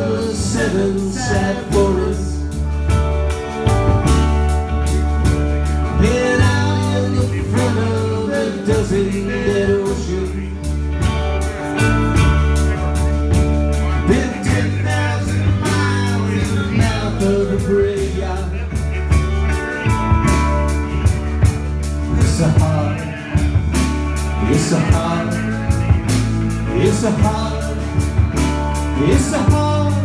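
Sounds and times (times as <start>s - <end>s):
man singing: 0.0s - 2.7s, 5.7s - 20.4s, 21.4s - 30.0s
rock band playing live: 0.0s - 30.0s.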